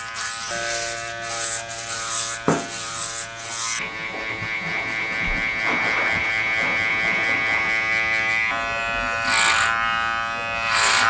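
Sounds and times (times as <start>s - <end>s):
electric hair clipper buzzing: 0.0s - 11.0s.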